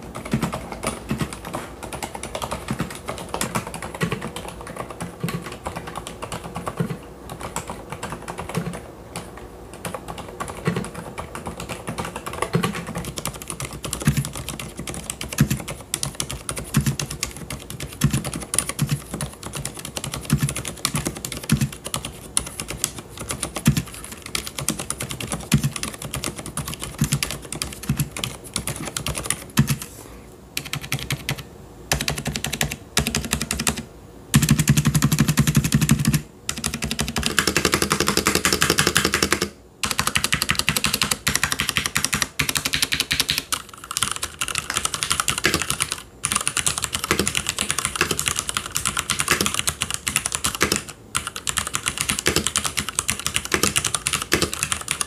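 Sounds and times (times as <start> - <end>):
keyboard typing: 0.0 - 29.9, 30.6 - 55.0.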